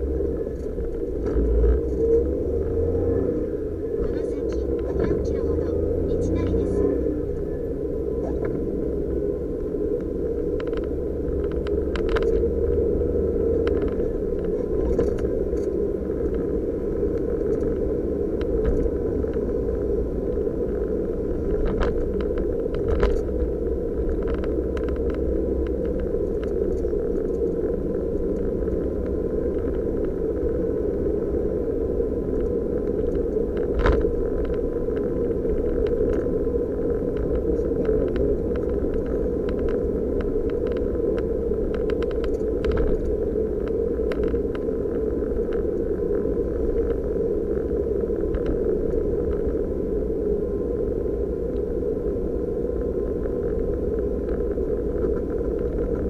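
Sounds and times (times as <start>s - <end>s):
car engine and tyre drone: 0.0s - 56.0s.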